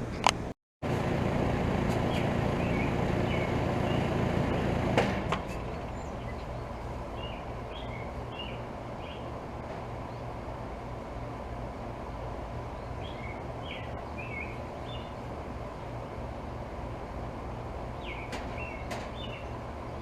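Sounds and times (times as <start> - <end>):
air conditioner condenser humming: 0.0 - 20.0.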